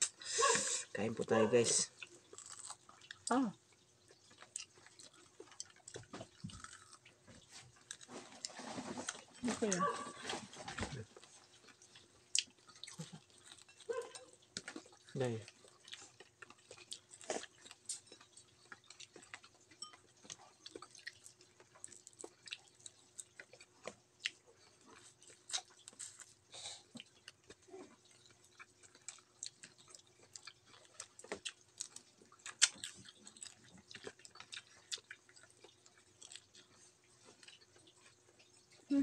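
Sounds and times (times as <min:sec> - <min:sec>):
person chewing shrimp: 0:01.3 - 0:09.4, 0:11.0 - 0:38.9.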